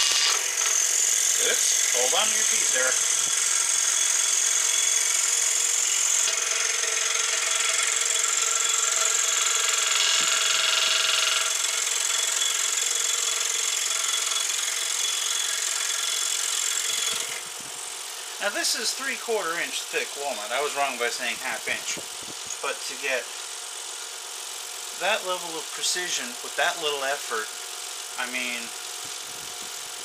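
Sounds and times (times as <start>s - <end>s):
scroll saw cutting wood: 0.0s - 30.0s.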